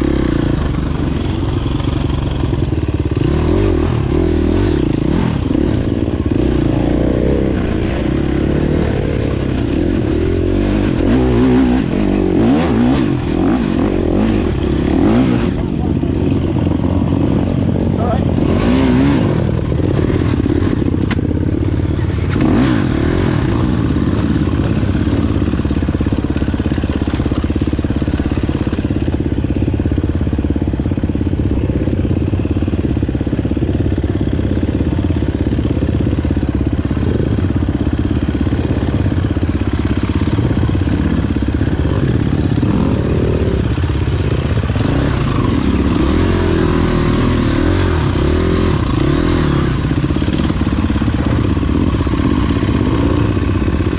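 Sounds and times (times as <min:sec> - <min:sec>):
dirt bike engine revving: 0:02.5 - 0:29.4, 0:36.6 - 0:53.9.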